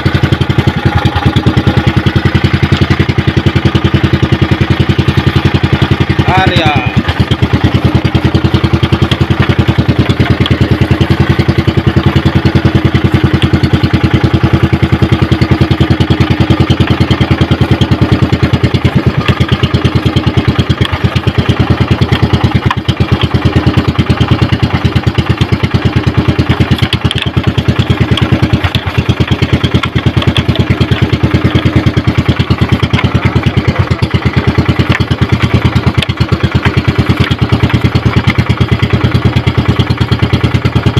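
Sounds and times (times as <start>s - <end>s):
boat engine chugging: 0.0s - 40.9s.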